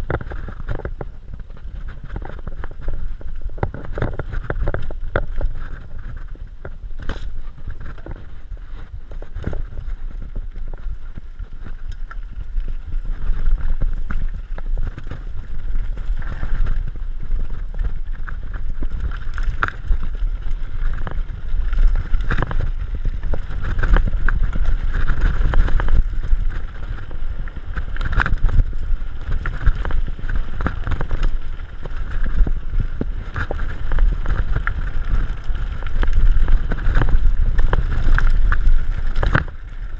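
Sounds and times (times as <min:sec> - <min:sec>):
bike rattling over bumps: 0:00.0 - 0:39.9
wind rumbling on microphone: 0:00.0 - 0:39.9.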